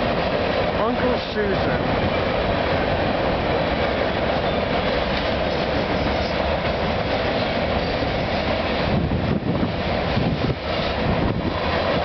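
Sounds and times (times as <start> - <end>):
steel train wheels rumbling on rails: 0.0 - 12.0.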